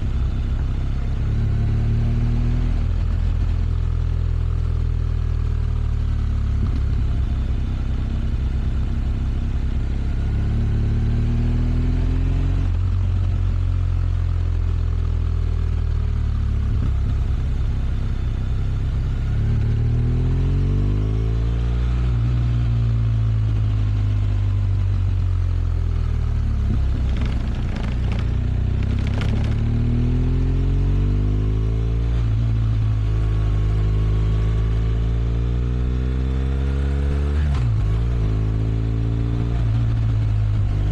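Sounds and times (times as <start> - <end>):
motorcycle engine revving: 0.0 - 14.0, 15.5 - 40.9.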